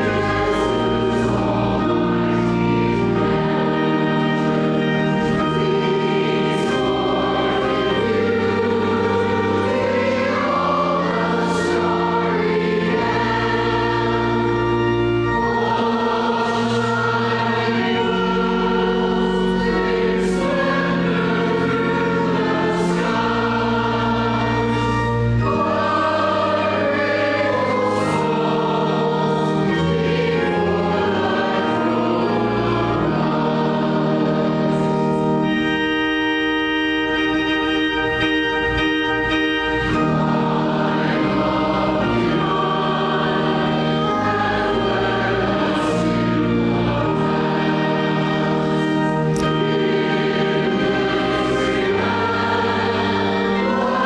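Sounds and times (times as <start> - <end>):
choir singing a hymn: 0.0 - 54.0
organ notes: 0.0 - 54.0.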